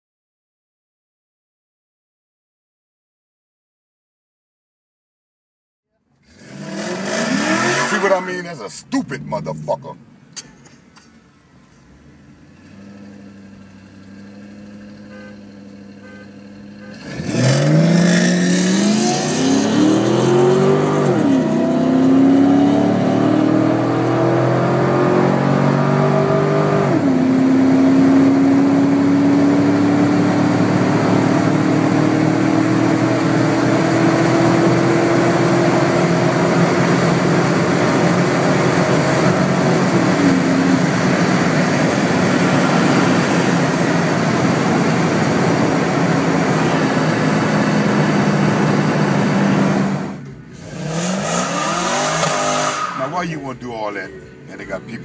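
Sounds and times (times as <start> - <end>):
car engine accelerating: 6.1 - 53.7.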